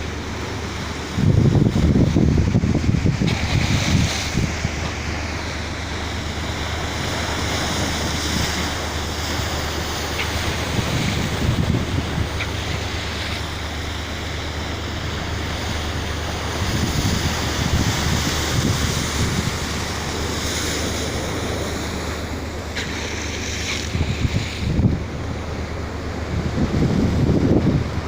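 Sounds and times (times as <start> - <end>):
sea water rushing: 0.0 - 28.0
steady low hum: 0.0 - 28.0
wind buffeting microphone: 0.0 - 28.0.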